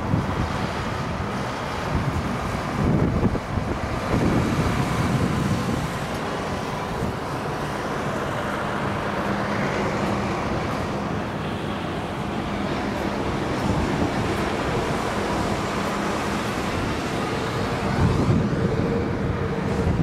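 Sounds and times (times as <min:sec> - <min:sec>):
outdoor rumble and hiss: 0:00.0 - 0:20.0
wind buffeting microphone: 0:00.0 - 0:20.0.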